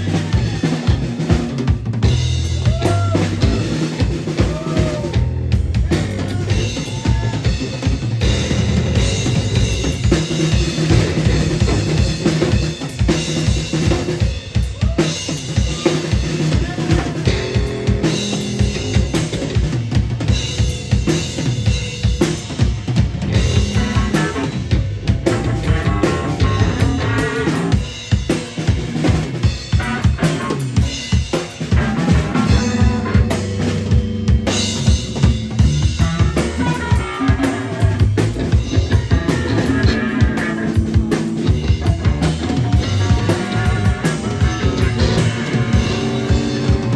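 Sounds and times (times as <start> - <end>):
rapid bass drum and snare hits: 0.0 - 46.9
rock band music: 0.0 - 46.9.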